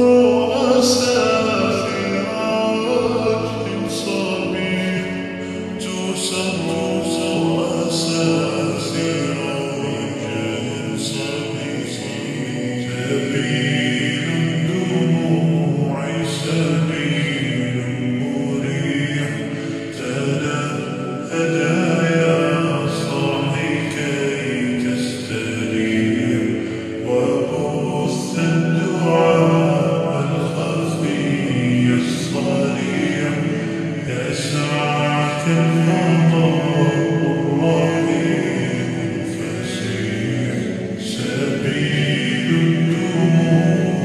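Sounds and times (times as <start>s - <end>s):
slowed reverberant choir chant: 0.0s - 44.0s.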